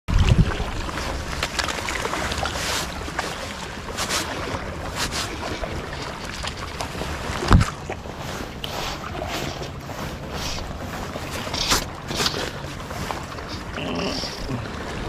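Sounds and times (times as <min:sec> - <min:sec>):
wind buffeting microphone: 0:00.1 - 0:01.5, 0:02.3 - 0:13.8
waves lapping against rocks: 0:00.1 - 0:15.0.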